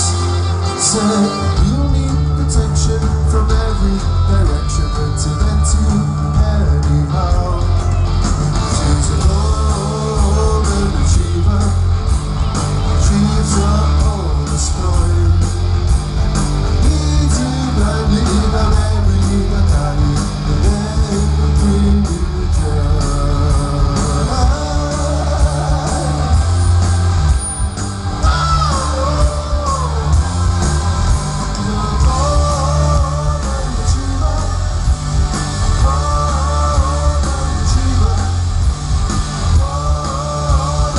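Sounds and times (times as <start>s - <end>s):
bass guitar: 0.0s - 40.9s
drums with steady beat: 0.0s - 40.9s
electric guitars: 0.0s - 40.9s.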